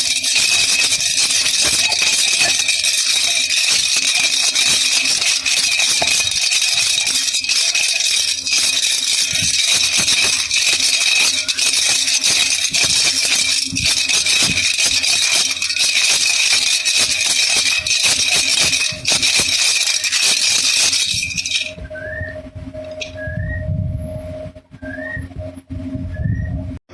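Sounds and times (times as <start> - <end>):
baby rattle shaken: 0.0 - 21.8.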